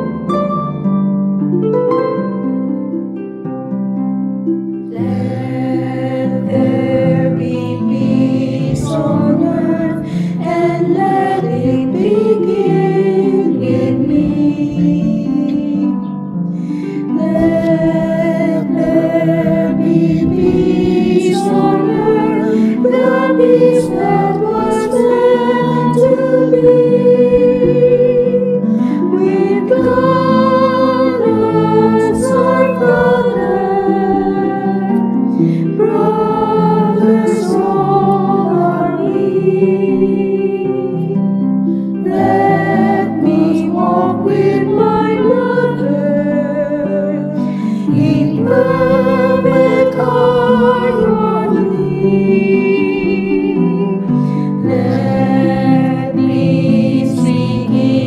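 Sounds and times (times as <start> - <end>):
instrumental accompaniment: 0.0 - 58.0
person singing with vibrato: 4.9 - 41.2, 42.0 - 58.0.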